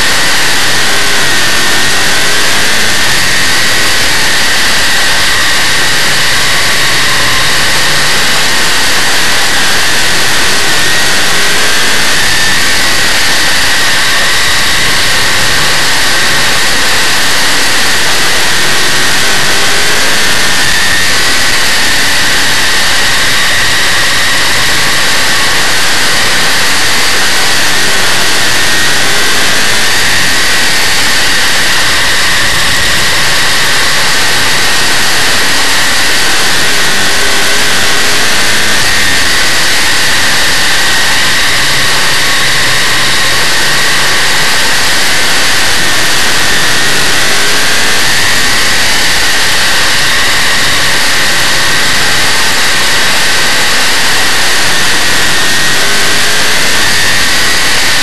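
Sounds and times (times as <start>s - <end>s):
race car engine roaring: 0.0s - 58.0s.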